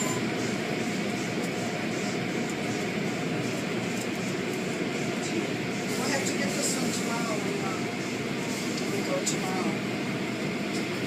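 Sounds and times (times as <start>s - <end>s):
car wash machinery roaring: 0.0s - 11.0s.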